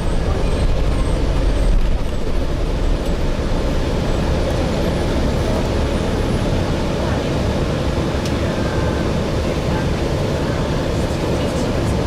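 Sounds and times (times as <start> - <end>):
bus interior rumble: 0.0 - 12.0.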